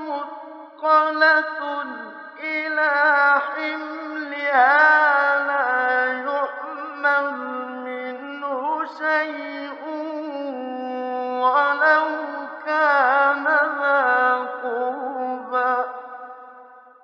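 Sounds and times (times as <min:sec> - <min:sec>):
man chanting melodically: 0:00.0 - 0:16.6.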